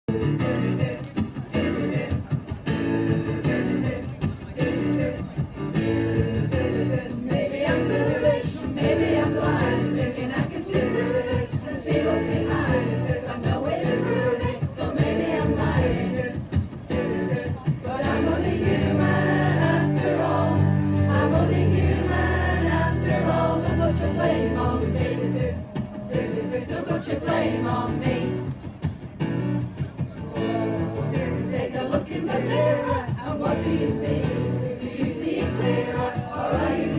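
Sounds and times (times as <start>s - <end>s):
choir singing: 0.2s - 2.2s, 3.4s - 28.5s, 30.3s - 36.9s.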